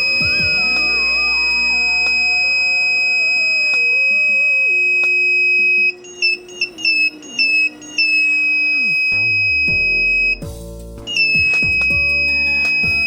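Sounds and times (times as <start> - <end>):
fire alarm buzzer: 0.0 - 10.4, 11.1 - 13.0
background music: 0.0 - 13.0.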